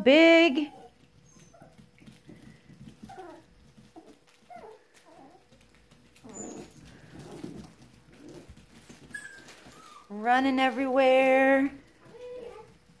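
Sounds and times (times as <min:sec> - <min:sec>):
puppies yipping and whining: 0:00.5 - 0:10.2, 0:11.8 - 0:13.0.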